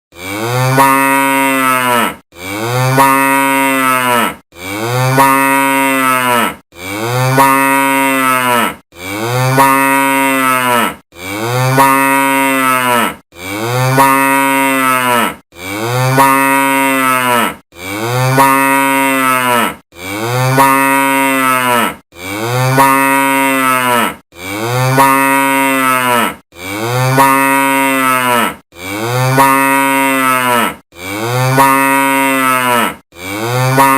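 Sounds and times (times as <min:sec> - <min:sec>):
cow mooing: 0:00.2 - 0:33.9.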